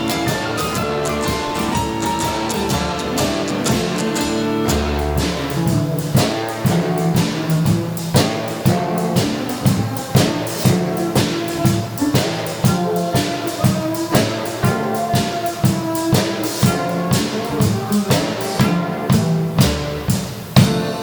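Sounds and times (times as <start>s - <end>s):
rock band instrumental: 0.0s - 21.0s.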